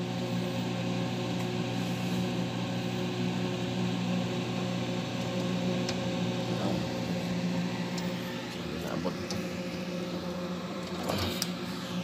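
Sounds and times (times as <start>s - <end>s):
electric motors humming: 0.0s - 12.0s.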